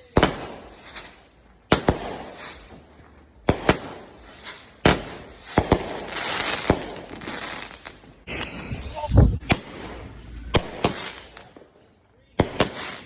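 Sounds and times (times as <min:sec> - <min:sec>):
fireworks bangs: 0:00.1 - 0:13.0
fireworks crackling hiss: 0:00.2 - 0:01.4, 0:02.0 - 0:02.9, 0:03.7 - 0:11.5, 0:12.5 - 0:13.0.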